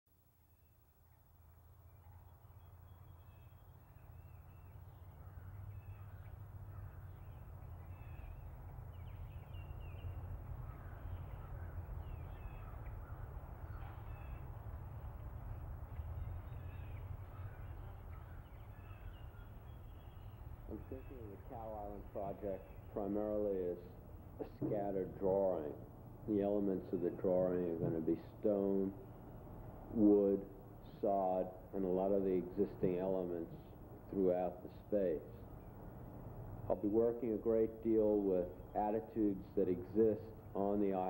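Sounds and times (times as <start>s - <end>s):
bird calls: 0.6s - 41.0s.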